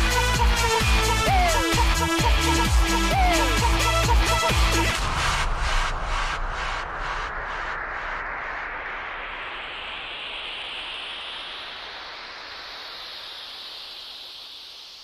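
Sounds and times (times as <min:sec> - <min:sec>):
rising white-noise sweep: 0:00.0 - 0:15.0.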